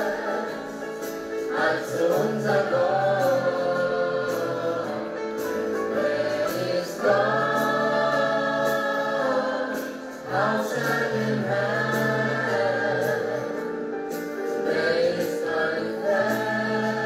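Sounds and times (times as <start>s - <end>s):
choir singing worship song: 0.0s - 17.0s
steady musical accompaniment: 0.0s - 17.0s.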